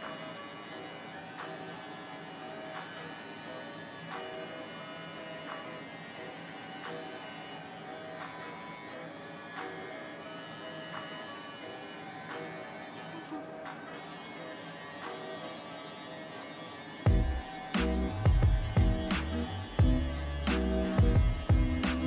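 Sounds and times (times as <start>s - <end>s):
electric pet clipper buzzing: 0.0s - 22.0s.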